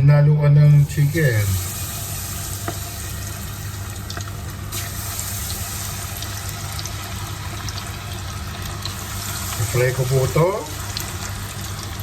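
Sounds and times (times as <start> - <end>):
steady low hum: 0.0 - 12.0
chicken sizzling in hot oil: 0.8 - 12.0
oil popping: 1.9 - 12.0.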